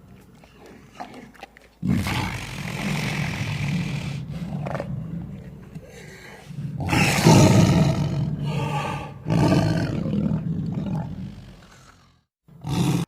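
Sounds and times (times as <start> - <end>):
big cat roaring: 1.8 - 13.0.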